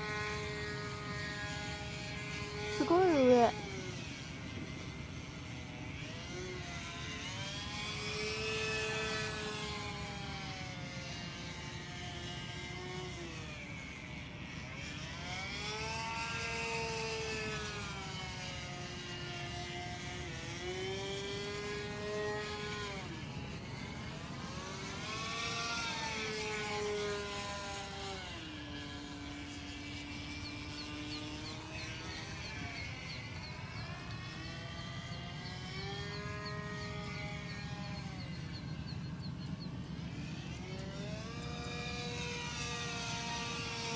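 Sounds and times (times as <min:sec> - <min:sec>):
model plane engine: 0:00.0 - 0:43.9.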